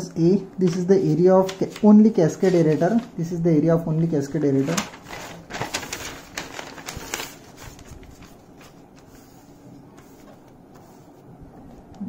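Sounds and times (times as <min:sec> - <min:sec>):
notebook pages turning: 0:00.7 - 0:03.2, 0:04.4 - 0:12.0.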